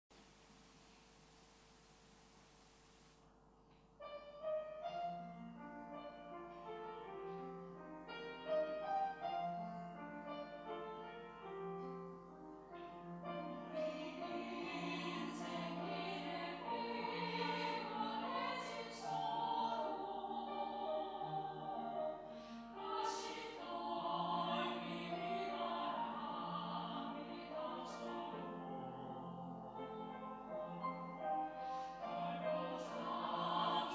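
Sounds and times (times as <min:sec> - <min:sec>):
slow piano chords and melody: 0:03.9 - 0:33.9.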